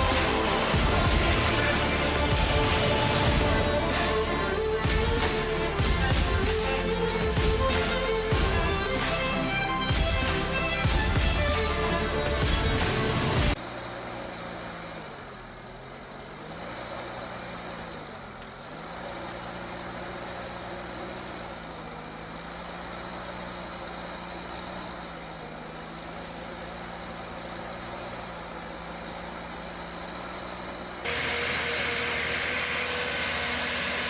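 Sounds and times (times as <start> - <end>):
heavy vehicle engine running: 0.0 - 34.0.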